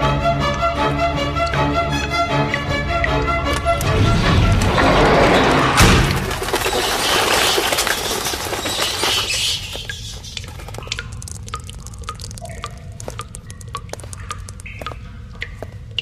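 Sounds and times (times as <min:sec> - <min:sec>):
water dripping: 0:00.0 - 0:04.0, 0:06.1 - 0:16.0.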